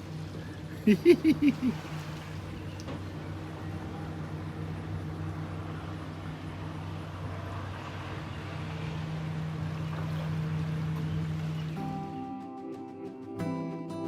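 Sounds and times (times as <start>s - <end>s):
motorboat engine droning: 0.0s - 12.2s.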